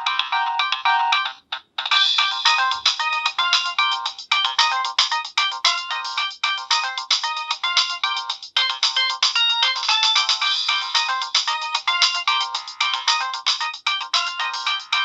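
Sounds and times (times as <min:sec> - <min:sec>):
electronic ringtone melody: 0:00.0 - 0:15.0.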